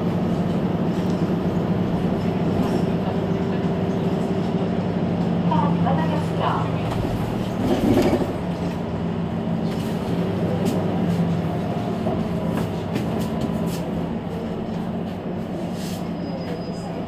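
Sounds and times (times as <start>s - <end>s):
bus engine humming: 0.0s - 17.0s.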